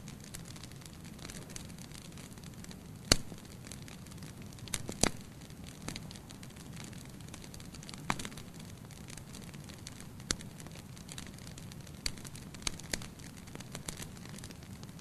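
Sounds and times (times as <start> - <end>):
fire crackling and popping: 0.0 - 15.0
low rumble of fire: 0.0 - 15.0.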